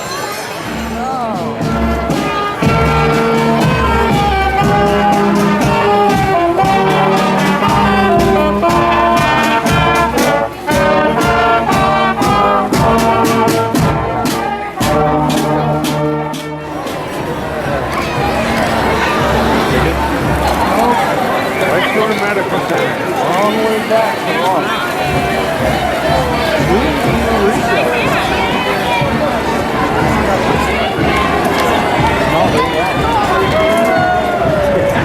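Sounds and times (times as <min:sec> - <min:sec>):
brass band playing: 0:00.0 - 0:35.0
drum hits: 0:00.7 - 0:21.5, 0:25.0 - 0:35.0.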